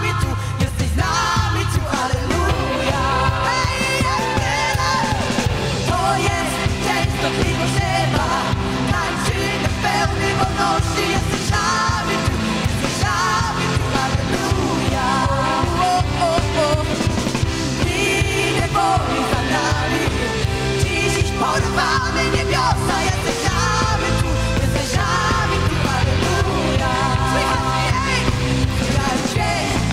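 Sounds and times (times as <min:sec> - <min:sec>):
electric guitar: 0:00.0 - 0:29.9
women singing: 0:00.0 - 0:29.9.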